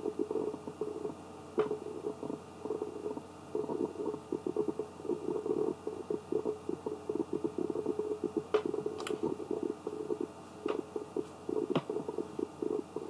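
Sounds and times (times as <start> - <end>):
low crackling rumble: 0.0 - 13.0.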